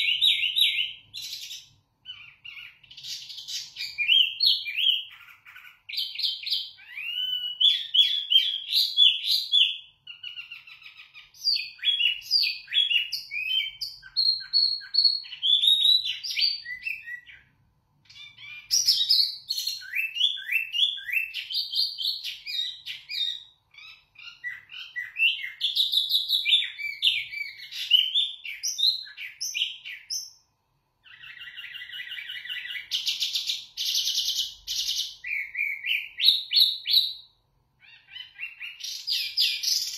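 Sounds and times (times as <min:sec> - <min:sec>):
songbird singing whistled notes: 0:00.0 - 0:39.9.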